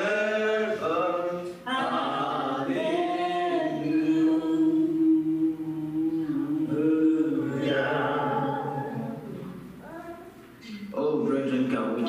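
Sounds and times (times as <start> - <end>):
voices singing worship song: 0.0 - 12.0.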